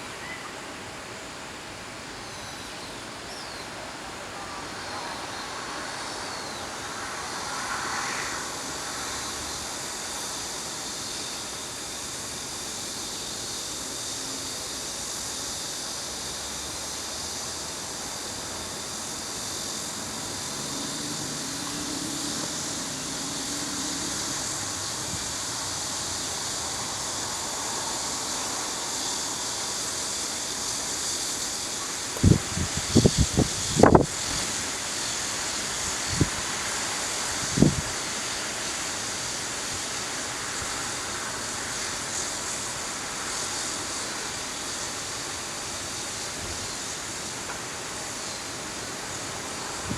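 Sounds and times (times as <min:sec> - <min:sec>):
strong wind through trees: 0:00.0 - 0:49.9.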